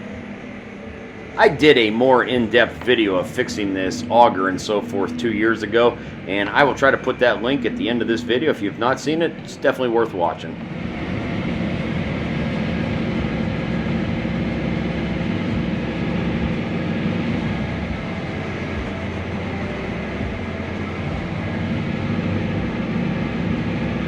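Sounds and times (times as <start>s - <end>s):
harvester diesel engine drone: 0.0s - 24.0s
mechanical hum: 0.0s - 24.0s.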